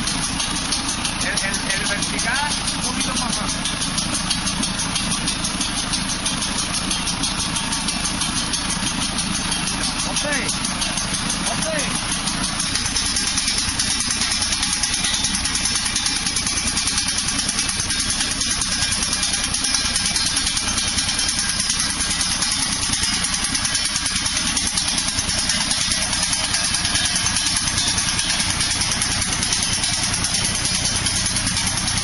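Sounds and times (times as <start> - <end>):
tractor engine running: 0.0 - 32.0
sickle bar blades clattering: 0.1 - 32.0.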